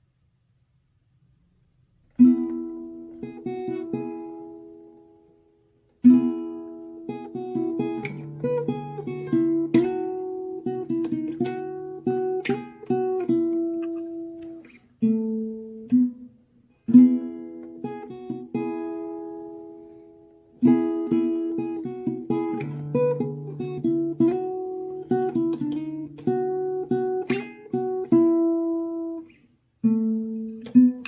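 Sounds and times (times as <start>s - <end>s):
acoustic guitar music: 2.1s - 31.0s.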